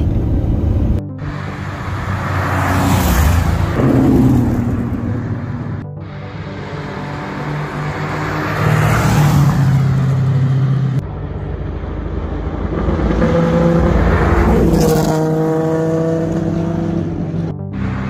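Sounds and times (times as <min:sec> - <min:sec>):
rally car engines passing by: 0:00.0 - 0:18.0.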